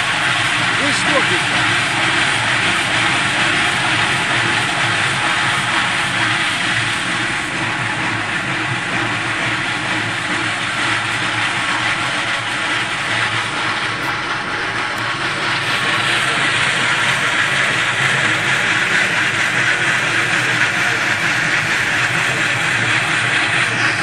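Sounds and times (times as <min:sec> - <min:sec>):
stone-cutting machine grinding: 0:00.0 - 0:24.0.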